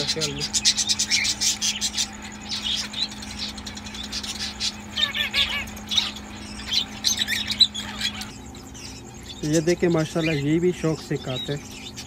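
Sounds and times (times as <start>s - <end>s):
faint steady hum: 0.0s - 12.0s
parakeets chirping: 0.0s - 12.0s.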